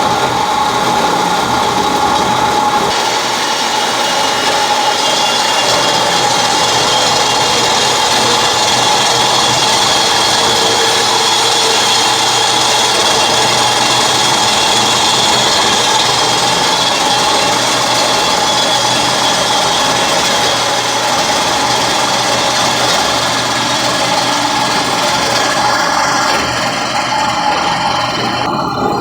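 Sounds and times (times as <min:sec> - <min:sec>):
bandsaw cutting steel tubing: 0:00.0 - 0:29.0.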